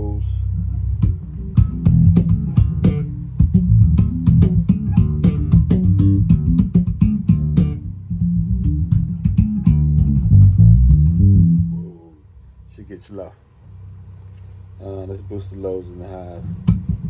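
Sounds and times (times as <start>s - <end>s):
electric bass plucked notes: 0.0s - 13.0s, 13.7s - 17.0s.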